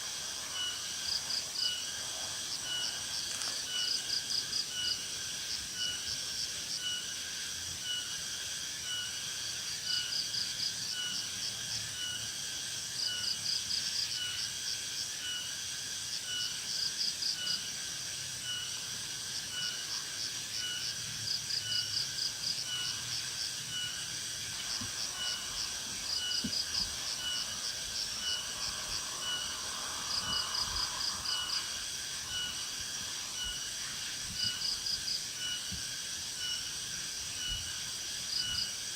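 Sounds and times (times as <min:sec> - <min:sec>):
fast insect trill: 0:00.0 - 0:38.9
insects chirping: 0:00.0 - 0:38.9.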